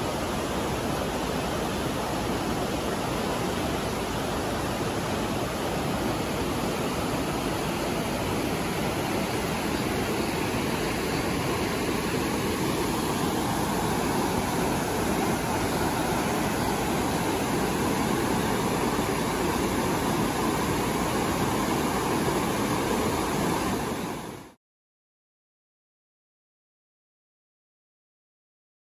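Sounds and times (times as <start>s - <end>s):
stream rushing over boulders: 0.0s - 24.6s.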